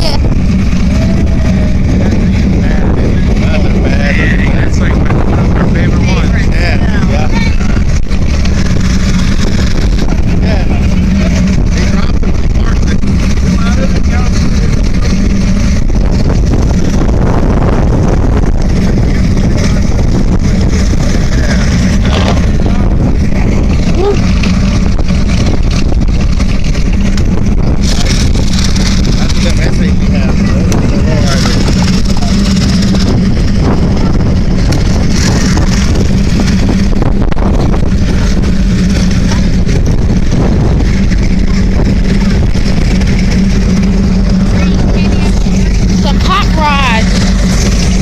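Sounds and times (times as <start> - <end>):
car engines rumbling: 0.0 - 48.0
wind buffeting microphone: 0.0 - 48.0.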